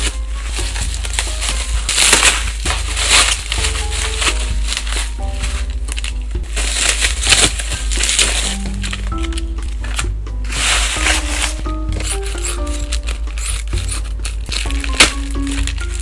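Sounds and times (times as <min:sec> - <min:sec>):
bubble wrap crinkling: 0:00.0 - 0:16.0
soft background music: 0:00.0 - 0:16.0.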